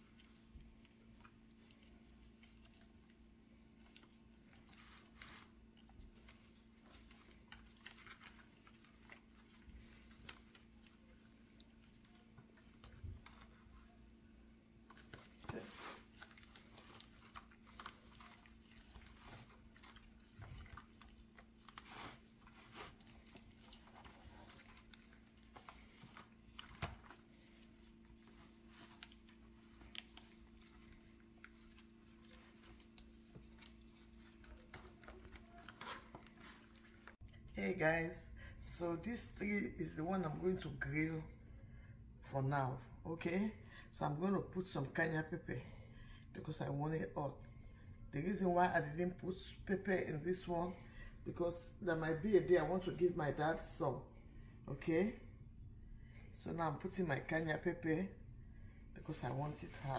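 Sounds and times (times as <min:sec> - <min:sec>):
wet squishing of hands marinating fish: 0:00.0 - 0:43.0, 0:43.6 - 0:59.9
faint steady hum: 0:00.0 - 0:59.9.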